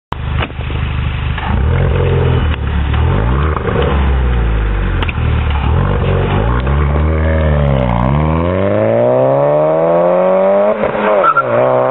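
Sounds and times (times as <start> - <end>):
car engine revving: 1.2 - 11.9.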